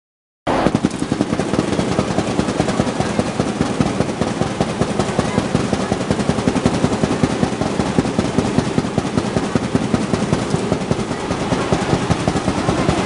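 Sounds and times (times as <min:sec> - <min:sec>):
fast distorted drumbeats: 0:00.5 - 0:13.0.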